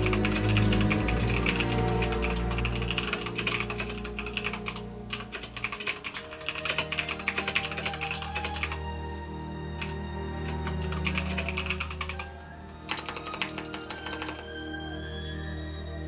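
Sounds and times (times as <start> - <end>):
rapid keyboard typing: 0.0 - 8.9, 9.8 - 14.5
soft background music: 0.0 - 16.0.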